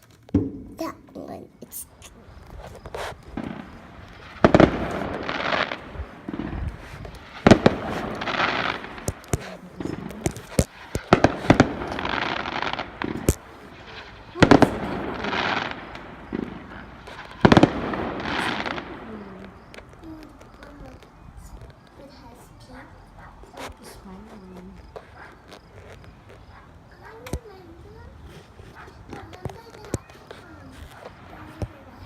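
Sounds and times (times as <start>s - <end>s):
fireworks bangs: 0.0s - 32.0s
fireworks crackling: 0.0s - 32.0s
small pops: 2.0s - 22.0s, 23.5s - 27.6s, 28.3s - 31.8s.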